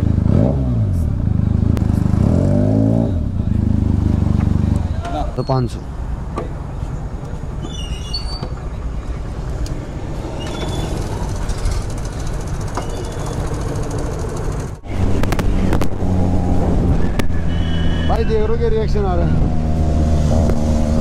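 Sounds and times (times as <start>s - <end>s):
motorcycle engine rumble: 0.0s - 21.0s
road noise: 0.0s - 21.0s.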